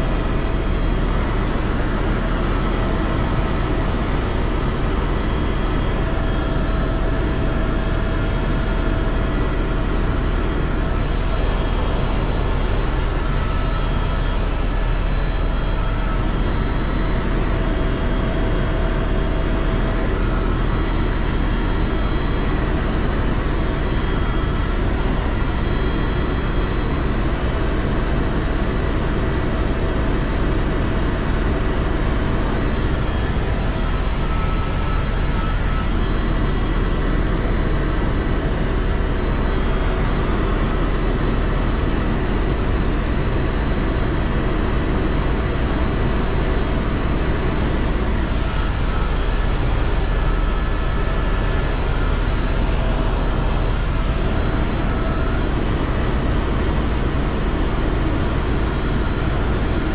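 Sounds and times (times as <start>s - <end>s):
faint whining tones: 0.0s - 59.9s
helicopter engine and rotor drone: 0.0s - 59.9s.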